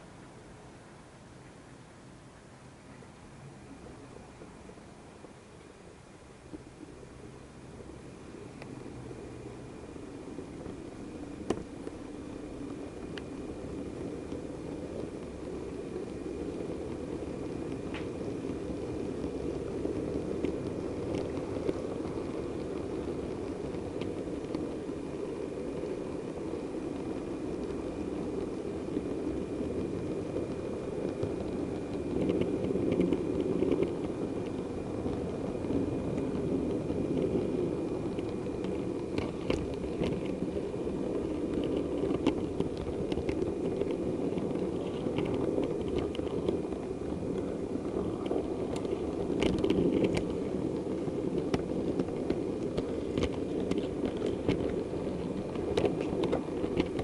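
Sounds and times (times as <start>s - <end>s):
faint high motor whine: 0.0s - 57.0s
model train wheels and motor rumbling: 0.0s - 57.0s
wheels clicking over points: 2.8s - 57.0s.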